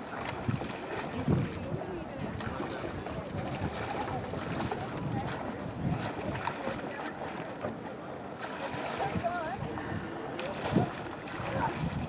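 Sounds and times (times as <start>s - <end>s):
wind on microphone: 0.0s - 7.0s, 8.9s - 12.0s
faint distant voices: 0.0s - 12.0s
water sloshing and splashing: 0.0s - 12.0s.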